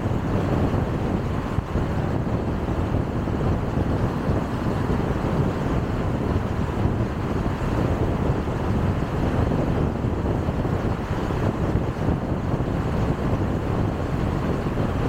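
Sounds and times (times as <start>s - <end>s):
wind noise from driving car: 0.0s - 15.0s.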